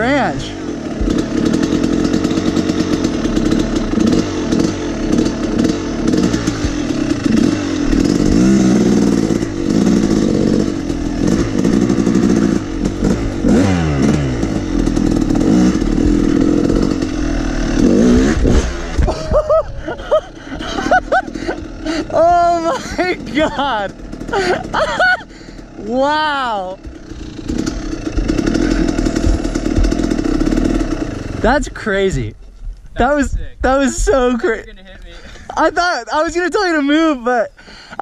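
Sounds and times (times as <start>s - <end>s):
dirt bike engine revving: 0.0s - 32.4s, 33.0s - 38.0s.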